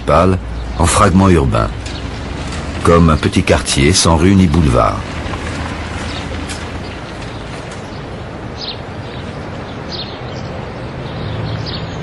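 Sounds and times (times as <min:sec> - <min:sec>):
steady outdoor noise: 0:00.0 - 0:12.0.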